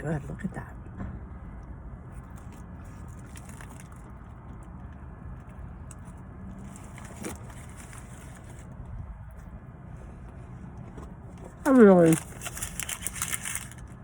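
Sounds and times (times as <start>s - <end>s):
faint clicks and rustles: 1.0s - 14.0s.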